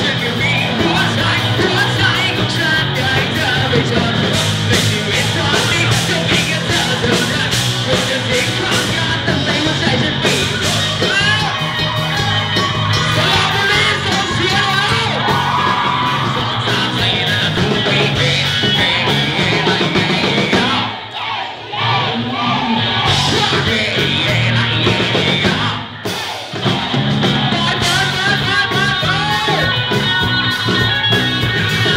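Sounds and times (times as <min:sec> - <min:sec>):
crowd of women yelling and singing: 0:00.0 - 0:31.9
rock band playing loud: 0:00.0 - 0:31.9.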